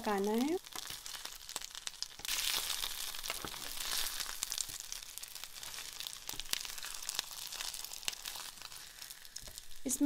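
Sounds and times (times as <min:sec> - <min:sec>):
crackles and pops of oil: 0:00.0 - 0:09.9
chicken sizzling in hot oil: 0:00.0 - 0:10.0.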